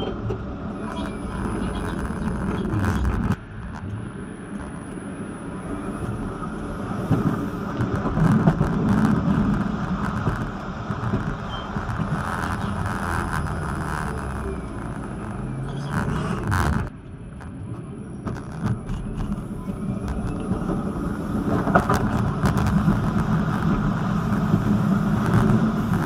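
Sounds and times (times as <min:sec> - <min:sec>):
tram traction drive: 0:00.0 - 0:26.0
tram wheels rumbling on rails: 0:00.0 - 0:26.0.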